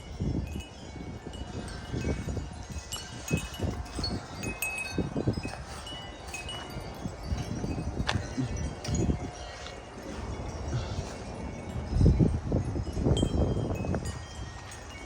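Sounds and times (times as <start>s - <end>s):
wind chimes ringing: 0.0s - 15.0s
wind on microphone: 0.0s - 15.0s.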